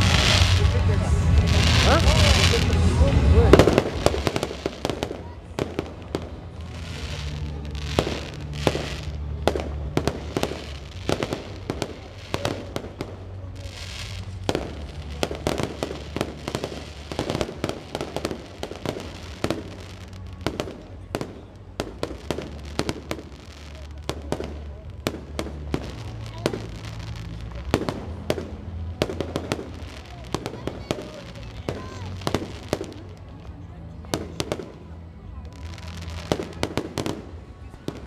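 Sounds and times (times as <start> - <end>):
fireworks bangs and pops: 0.0 - 38.0.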